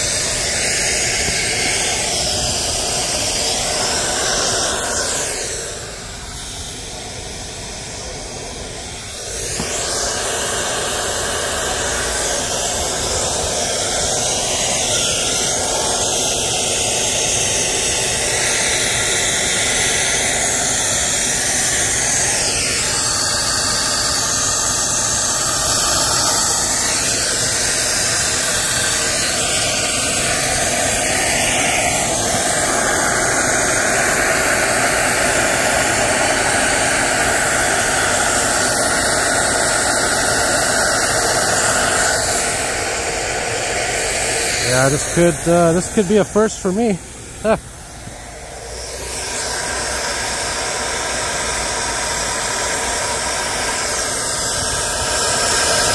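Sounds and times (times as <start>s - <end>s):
compressed air hissing from hose: 0.0s - 55.9s.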